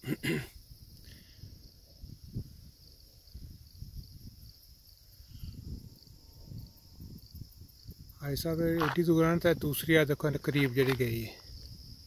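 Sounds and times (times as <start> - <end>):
crickets chirring: 0.0 - 12.0
wind rumble on microphone: 0.6 - 12.0.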